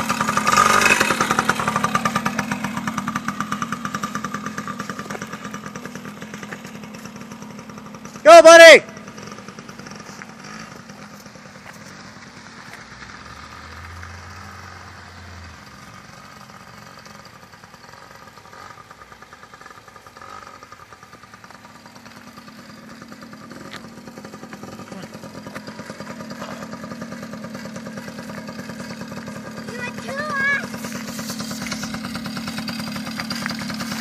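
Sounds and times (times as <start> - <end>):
distant dirt bike engine: 0.0 - 34.0.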